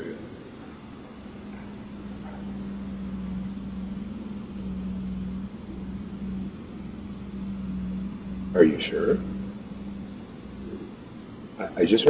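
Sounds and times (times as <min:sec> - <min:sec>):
constant hiss: 0:00.0 - 0:12.0
low hum: 0:00.0 - 0:12.0.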